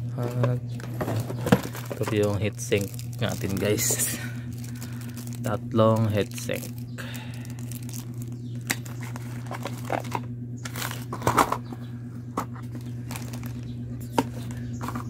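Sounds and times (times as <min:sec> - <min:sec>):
steady low hum: 0:00.0 - 0:15.0
plastic and foil bags crinkling: 0:00.8 - 0:11.6, 0:12.5 - 0:15.0.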